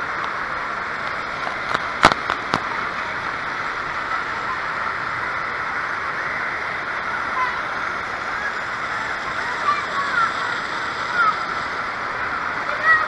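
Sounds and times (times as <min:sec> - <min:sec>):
echoing water park noise: 0:00.0 - 0:13.0
water rushing: 0:00.0 - 0:13.0
water splashing: 0:00.0 - 0:13.0.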